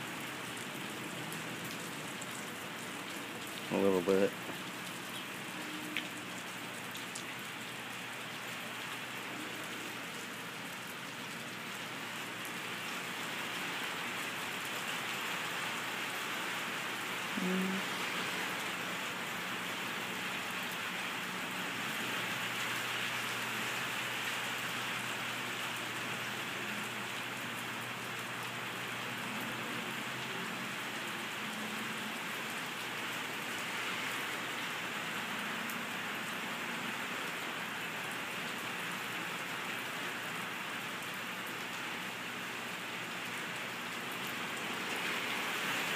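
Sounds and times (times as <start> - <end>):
rain on wet concrete and puddles: 0.0 - 45.9.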